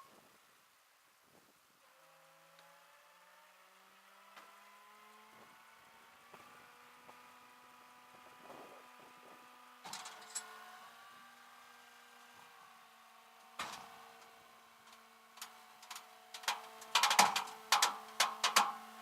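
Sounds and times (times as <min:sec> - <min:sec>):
faint vehicle engine hum: 0:01.8 - 0:19.0.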